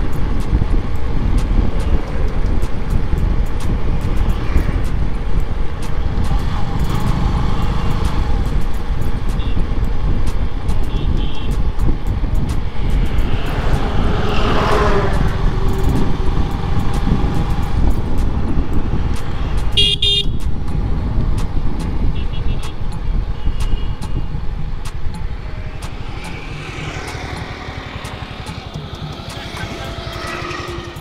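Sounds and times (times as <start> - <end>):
motorcycle running: 0.0 - 31.0
passing vehicle noise: 0.0 - 31.0
wind rumble on microphone: 0.0 - 31.0.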